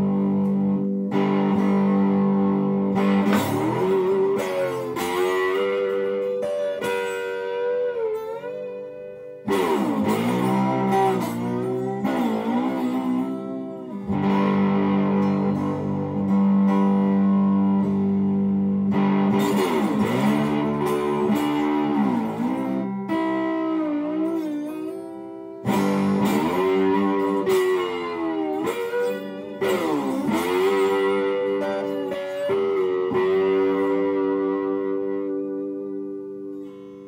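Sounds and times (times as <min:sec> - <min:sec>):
fuzzed electric guitar chords: 0:00.0 - 0:37.0.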